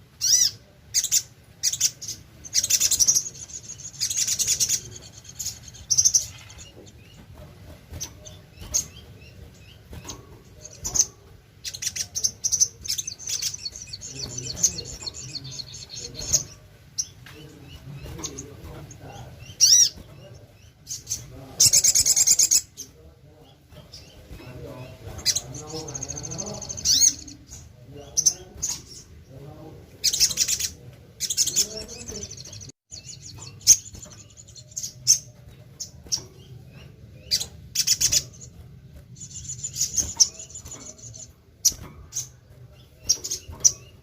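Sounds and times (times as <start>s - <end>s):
bird chirping and trilling: 0.2s - 44.0s.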